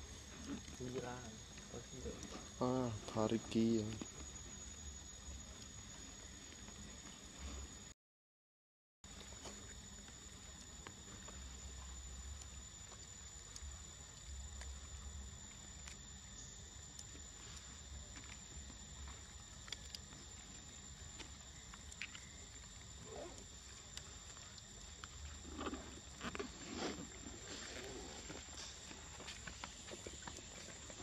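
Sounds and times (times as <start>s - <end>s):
insect drone: 0.0s - 8.0s, 9.0s - 31.0s.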